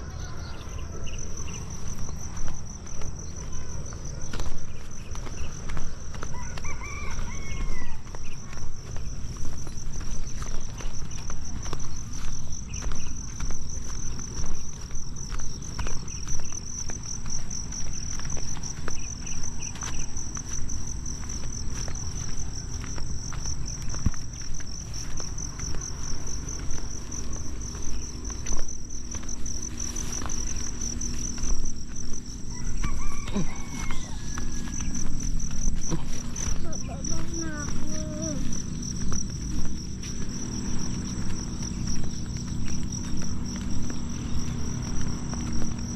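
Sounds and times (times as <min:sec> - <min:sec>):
insects trilling: 0:00.0 - 0:45.9.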